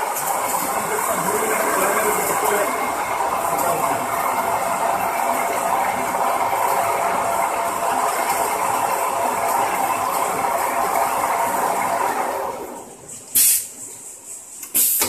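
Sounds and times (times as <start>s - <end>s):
wrapping machine running: 0.0s - 15.0s.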